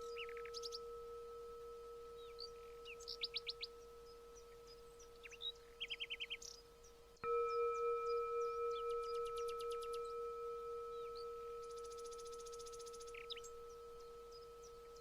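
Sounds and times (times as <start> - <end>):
ringing musical tone struck: 0.0 - 5.6, 7.2 - 15.0
small songbirds chirping: 0.0 - 15.0.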